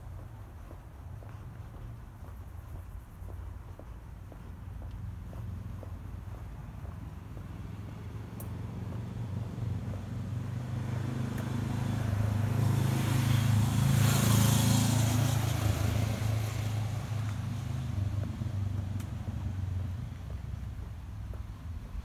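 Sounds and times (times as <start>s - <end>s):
vehicle passing by: 3.5s - 22.0s.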